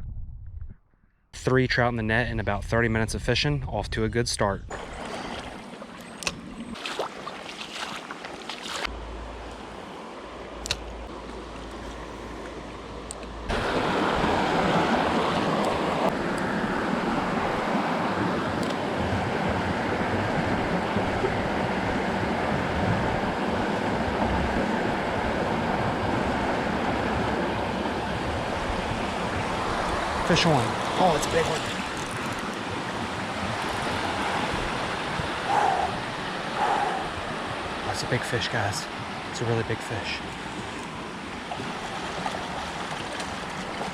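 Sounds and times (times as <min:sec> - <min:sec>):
creek water flowing: 0:04.7 - 0:43.9.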